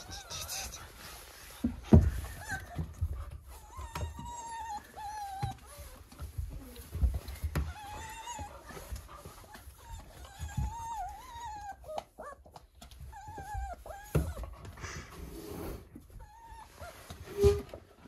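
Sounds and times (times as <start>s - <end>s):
young dog whining: 0.0s - 1.0s, 2.0s - 14.8s, 16.0s - 17.7s.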